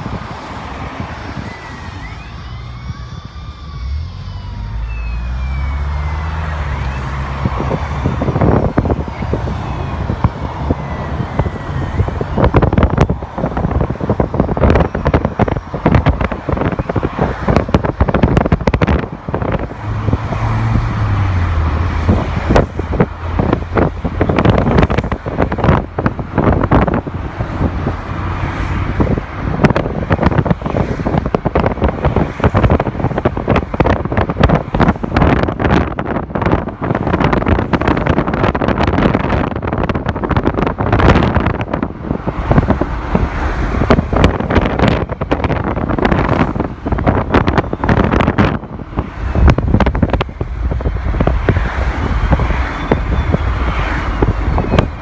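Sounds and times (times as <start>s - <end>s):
tyre and engine hum: 0.0s - 55.0s
wind buffeting the microphone: 0.0s - 55.0s.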